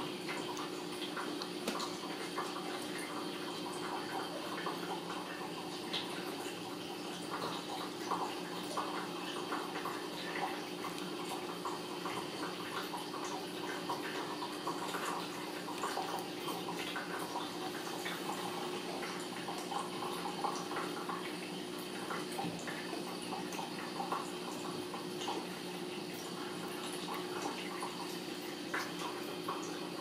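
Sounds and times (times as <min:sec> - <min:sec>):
room hum and hiss: 0:00.0 - 0:30.0.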